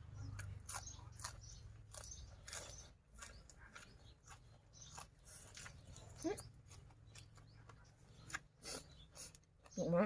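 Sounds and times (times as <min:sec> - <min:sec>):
person chewing crunchy food: 0:00.0 - 0:09.7.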